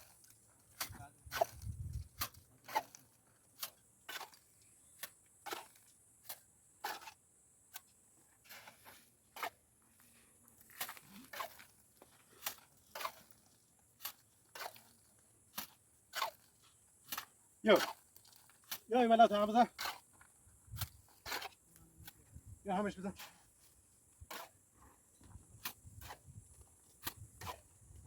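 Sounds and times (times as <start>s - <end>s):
tool scraping gritty mortar: 0.0s - 28.0s.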